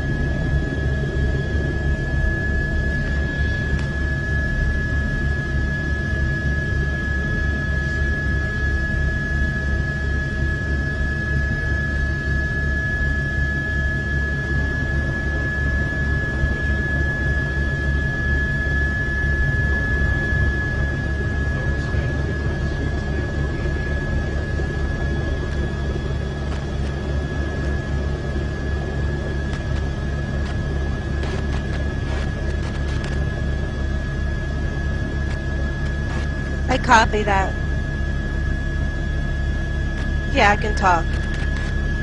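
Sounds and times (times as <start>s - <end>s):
helicopter rotor beating: 0.0s - 16.8s, 19.4s - 42.0s
turbine whine: 0.0s - 42.0s.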